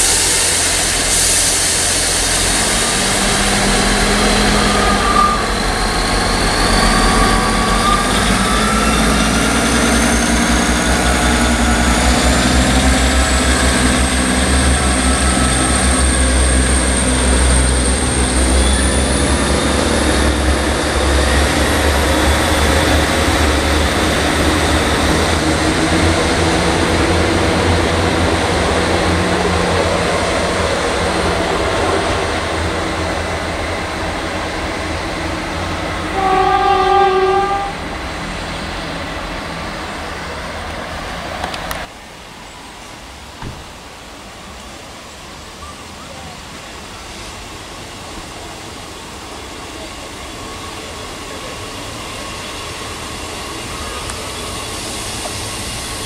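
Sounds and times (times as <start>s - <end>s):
diesel train engine rumble: 0.0s - 56.0s
rising train whine: 0.0s - 56.0s.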